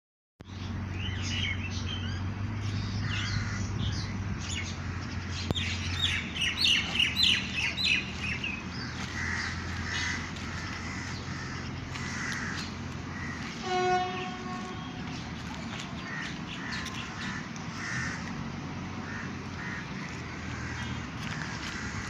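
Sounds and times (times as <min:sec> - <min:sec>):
birds chirping: 0:00.4 - 0:22.0
steady low hum: 0:00.5 - 0:22.0.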